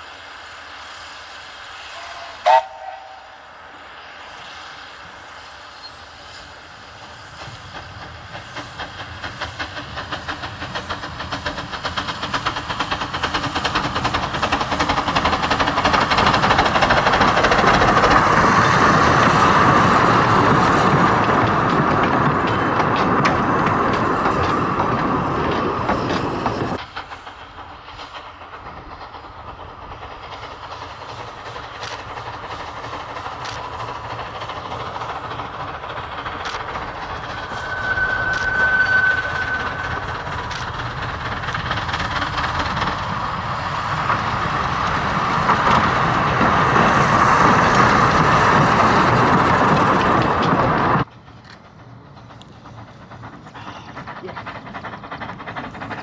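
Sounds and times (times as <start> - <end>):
train wheels clicking over rails: 0.1 - 56.0.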